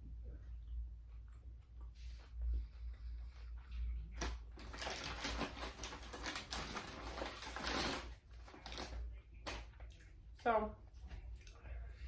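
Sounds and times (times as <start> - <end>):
crackly crunching and rustling: 1.2 - 11.9.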